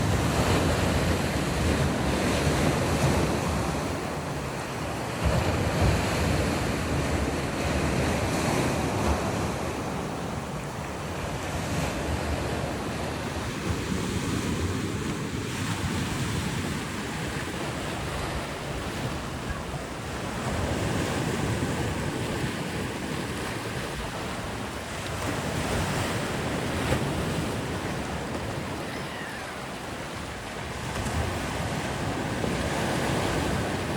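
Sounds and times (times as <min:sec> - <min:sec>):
sea waves breaking: 0:00.0 - 0:33.9.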